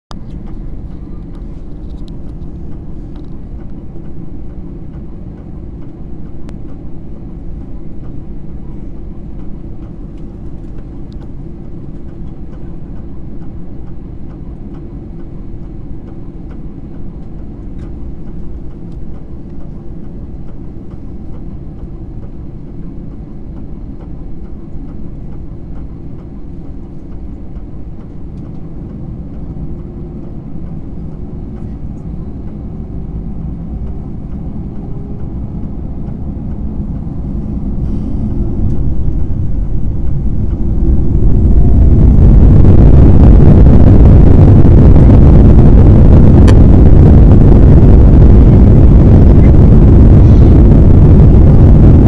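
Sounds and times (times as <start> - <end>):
airliner cabin rumble: 0.1 - 52.0.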